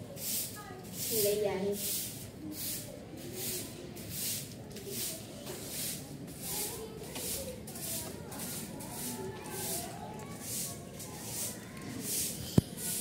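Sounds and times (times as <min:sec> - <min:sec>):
broom sweeping concrete: 0:00.1 - 0:13.0.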